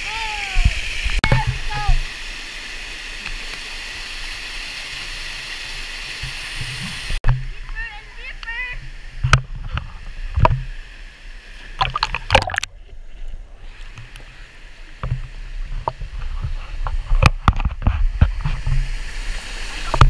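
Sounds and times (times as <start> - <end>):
waterfall rushing and splashing: 0.0 - 12.7, 13.6 - 20.0.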